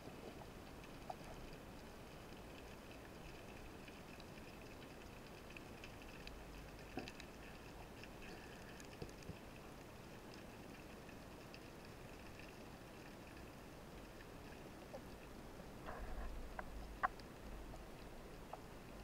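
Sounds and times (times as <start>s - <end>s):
crackling clicks: 0.3s - 15.2s, 15.8s - 19.0s.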